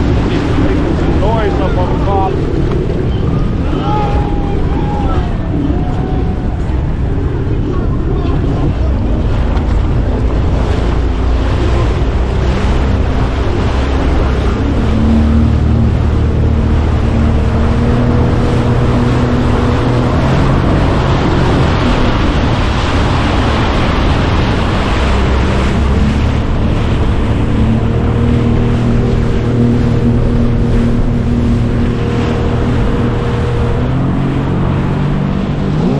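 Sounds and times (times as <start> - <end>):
motorboat engine running: 0.0 - 35.9
water slapping against hull: 0.0 - 35.9
wind buffeting microphone: 0.0 - 35.9.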